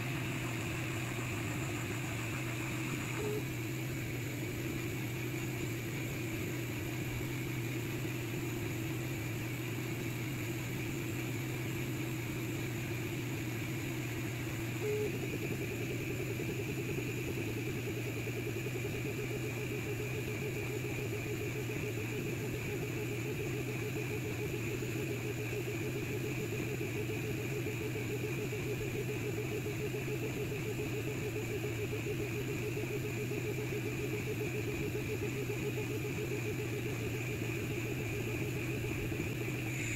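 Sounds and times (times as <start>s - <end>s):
laser engraver humming: 0.0s - 39.9s.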